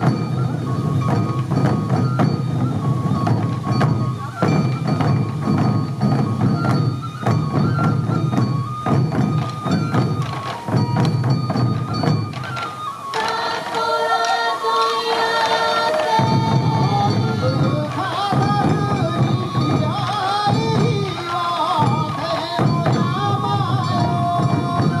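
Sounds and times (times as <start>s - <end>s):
bamboo flute melody: 0.0s - 25.0s
taiko drums beating: 0.0s - 25.0s.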